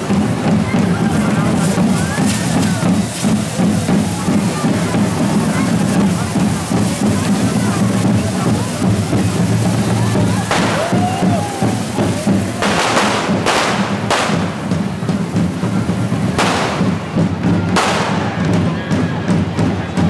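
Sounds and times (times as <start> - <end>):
firework cracks: 0.0 - 18.7
fireworks hissing: 0.0 - 18.7
steady drumming: 0.0 - 20.0.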